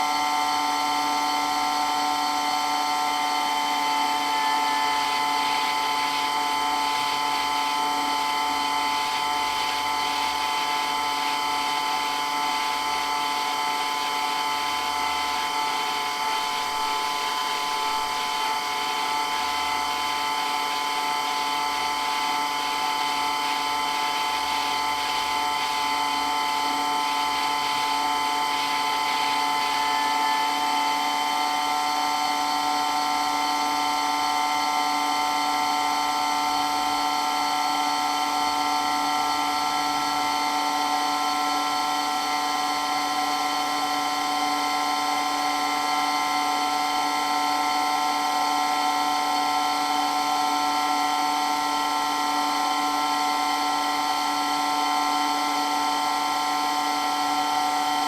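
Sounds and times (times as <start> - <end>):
water pump whining: 0.0 - 58.0.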